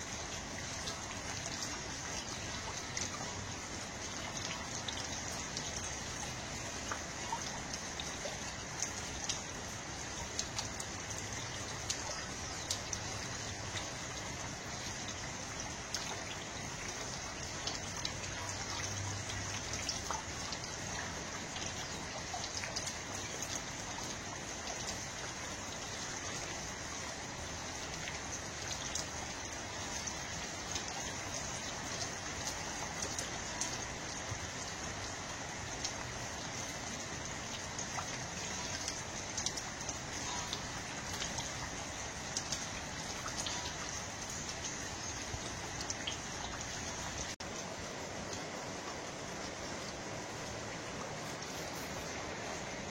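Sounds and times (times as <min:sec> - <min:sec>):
water drips and ticks: 0:00.0 - 0:52.9.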